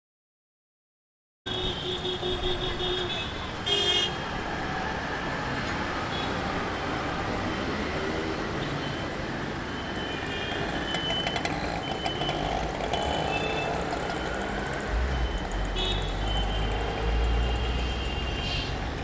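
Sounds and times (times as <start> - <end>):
traffic rumble: 2.3 - 19.0.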